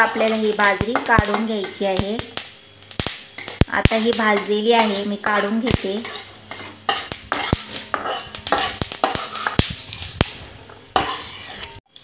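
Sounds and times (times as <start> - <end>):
metal spatula scraping iron pan: 0.0 - 1.9, 3.4 - 11.8.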